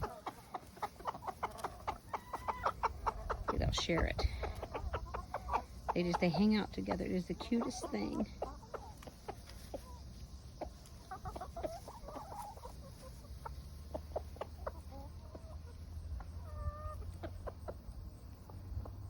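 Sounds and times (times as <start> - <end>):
hens clucking softly: 0.0 - 19.0.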